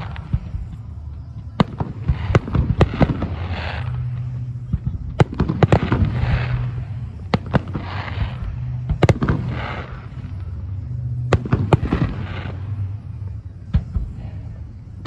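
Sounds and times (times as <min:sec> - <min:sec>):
fireworks bursting with sharp bangs: 0:00.0 - 0:15.0
fireworks crackling: 0:00.0 - 0:15.0.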